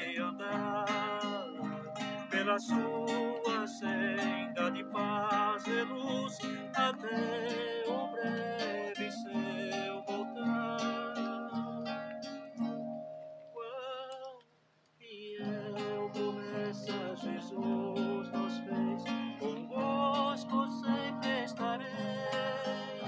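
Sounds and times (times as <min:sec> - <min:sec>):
person singing a hymn: 0:00.0 - 0:12.8, 0:13.4 - 0:23.0
acoustic guitar strumming: 0:00.0 - 0:14.2, 0:15.4 - 0:23.0.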